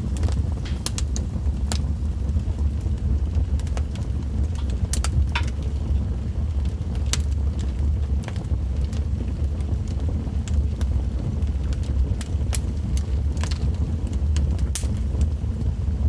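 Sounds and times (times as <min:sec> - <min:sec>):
low rumble: 0:00.0 - 0:16.0
wood fire crackling: 0:00.0 - 0:16.0.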